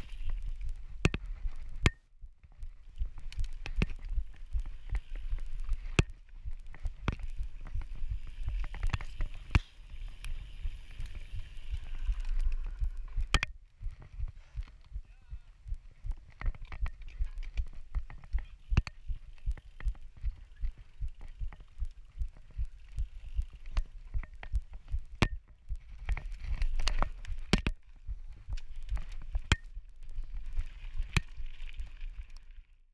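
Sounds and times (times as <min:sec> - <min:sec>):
mountain bike rattling over dirt: 0:00.0 - 0:01.8, 0:02.5 - 0:14.9, 0:16.1 - 0:32.9.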